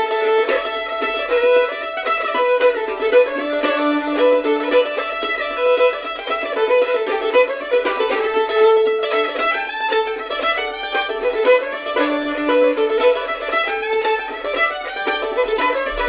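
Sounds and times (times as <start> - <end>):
fiddle playing melody: 0.0 - 16.0
mandolin picking: 0.0 - 16.0.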